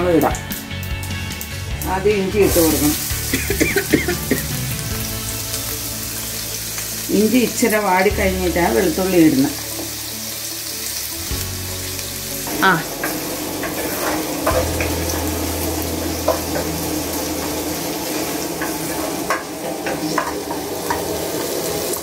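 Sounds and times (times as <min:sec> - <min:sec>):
ginger sizzling in hot oil: 0:00.0 - 0:22.0.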